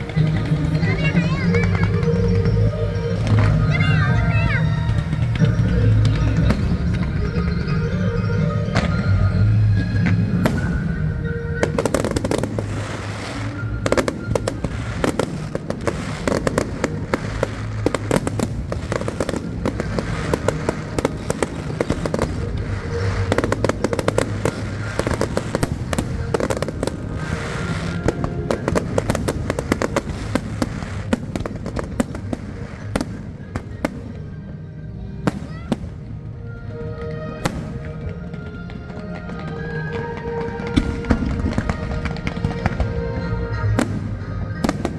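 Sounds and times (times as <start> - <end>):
fireworks bursting and crackling: 0.0 - 44.9
show music: 0.0 - 44.9.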